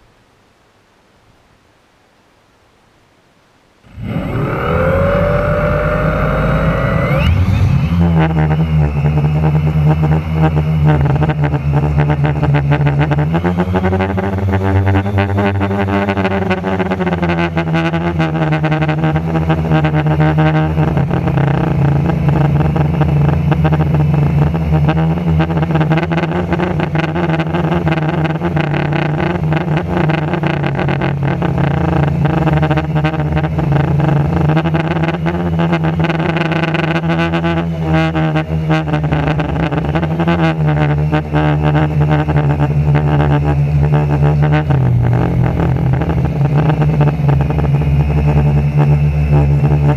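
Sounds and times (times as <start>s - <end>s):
drone propellers buzzing: 3.9s - 49.9s.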